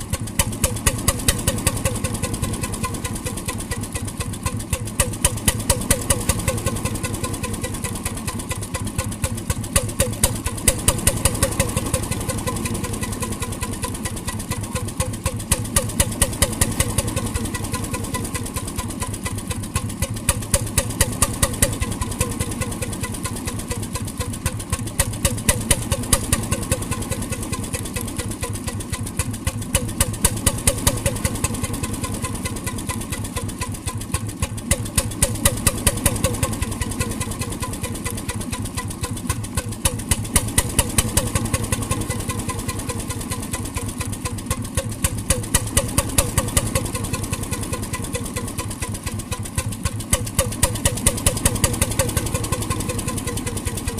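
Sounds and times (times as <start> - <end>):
marine engine knocking: 0.0 - 53.9.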